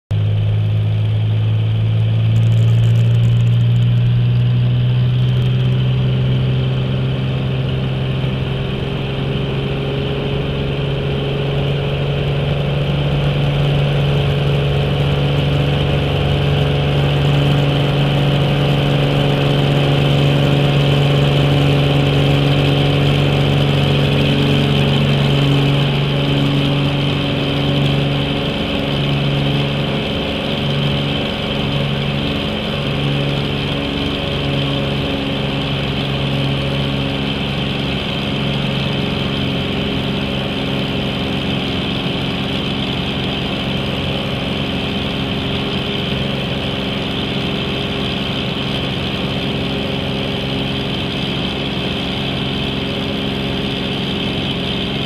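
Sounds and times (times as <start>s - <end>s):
light aircraft engine drone: 0.1s - 55.0s.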